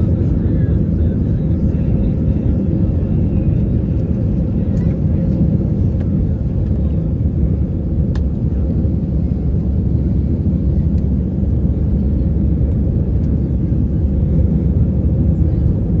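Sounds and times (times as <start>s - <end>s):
jet engine and airflow rumble: 0.0s - 16.0s.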